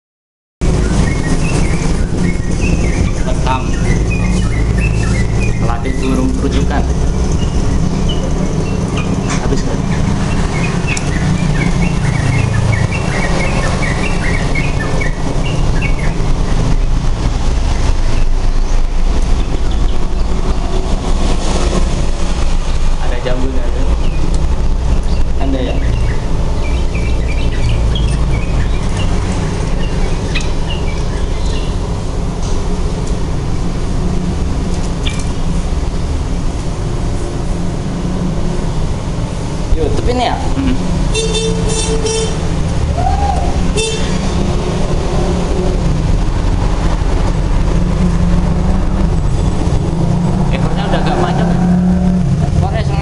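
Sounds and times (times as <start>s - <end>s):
steady low rumble: 0.6s - 41.2s, 42.3s - 53.0s.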